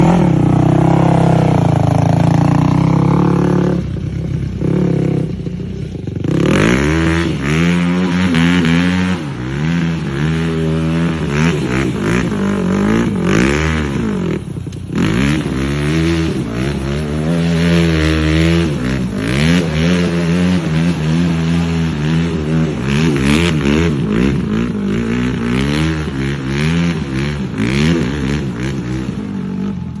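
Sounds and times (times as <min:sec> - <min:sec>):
quad bike engine revving: 0:00.0 - 0:30.0.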